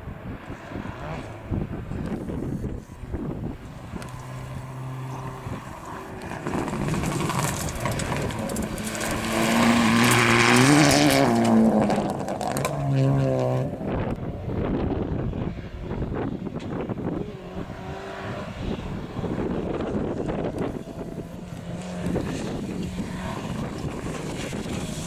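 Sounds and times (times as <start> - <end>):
car engine passing at high revs: 0.0 - 25.0.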